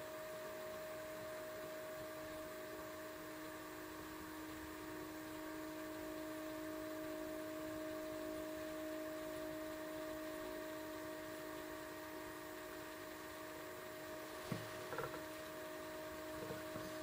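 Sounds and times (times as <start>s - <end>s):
motor hum with steady tone: 0.0s - 17.0s.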